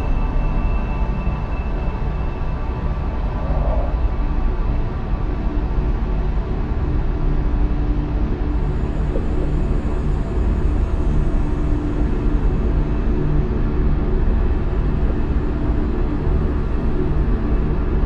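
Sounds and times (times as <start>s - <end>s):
deep rumbling drone: 0.0s - 18.0s.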